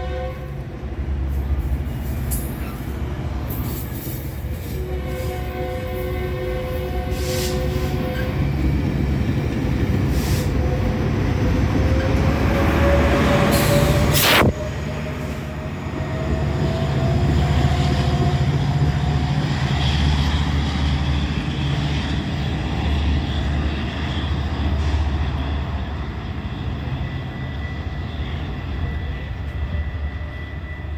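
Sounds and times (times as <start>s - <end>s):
train rumbling: 0.0s - 30.9s.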